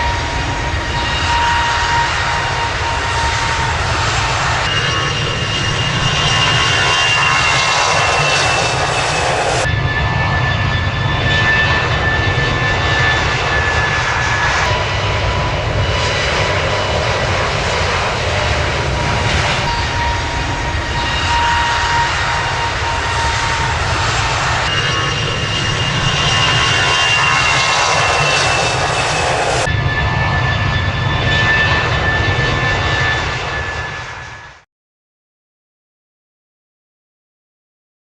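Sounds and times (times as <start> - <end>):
jet engines running: 0.0 - 34.6.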